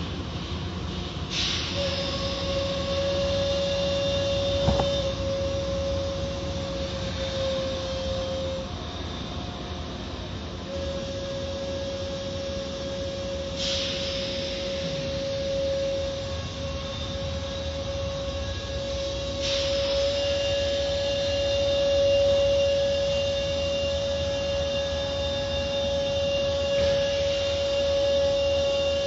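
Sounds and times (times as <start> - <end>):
car wash machinery rumble: 0.0 - 29.0
machinery whine: 0.0 - 29.0.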